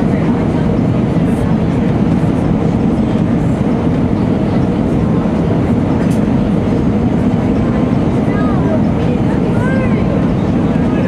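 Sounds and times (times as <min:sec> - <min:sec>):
airflow and jet engine rumble: 0:00.0 - 0:11.0.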